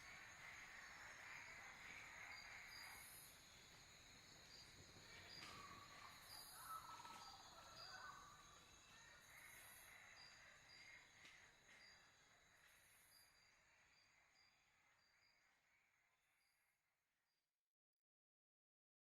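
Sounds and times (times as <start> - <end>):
insects trilling: 0.0 - 15.5.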